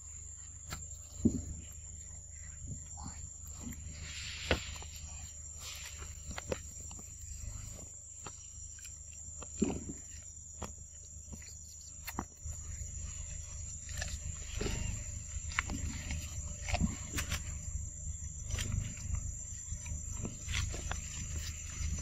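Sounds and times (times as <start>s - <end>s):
insect drone: 0.0s - 22.0s
clicks and leaf rustles: 0.4s - 22.0s.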